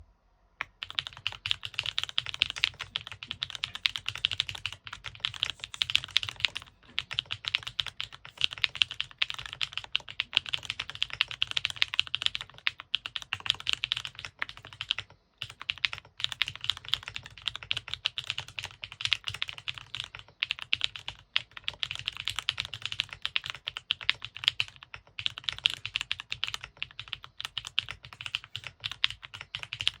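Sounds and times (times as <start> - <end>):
mechanical keyboard typing: 0.6 - 30.0.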